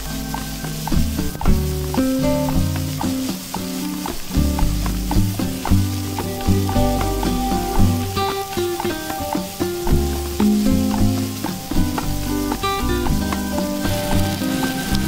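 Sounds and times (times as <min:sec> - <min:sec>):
background music: 0:00.0 - 0:15.0
vegetables sizzling in a pan: 0:00.0 - 0:15.0.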